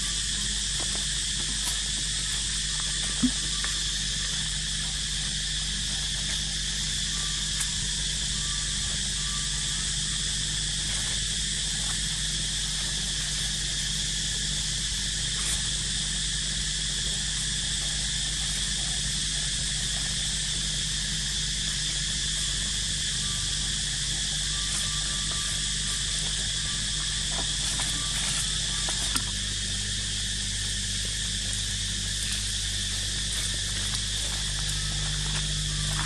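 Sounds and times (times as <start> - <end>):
high-pitched insect drone: 0.0 - 36.0
steady low hum: 0.0 - 36.0.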